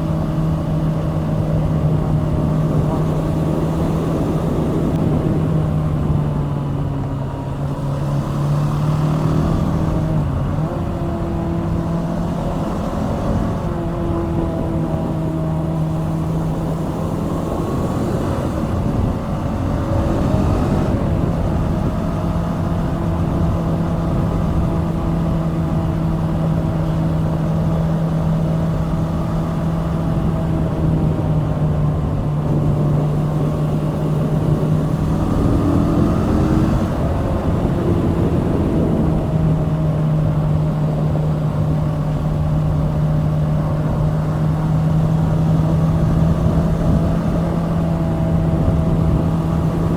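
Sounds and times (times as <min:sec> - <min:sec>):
motorcycle engine cruising: 0:00.0 - 0:49.9
wind noise: 0:00.0 - 0:49.9.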